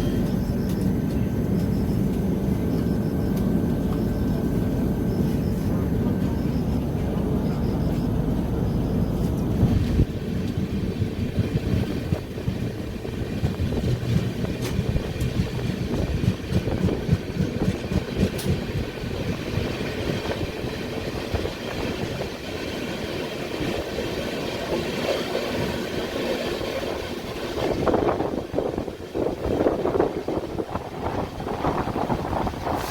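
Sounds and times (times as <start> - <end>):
train wheels rumbling on track: 0.0 - 32.9.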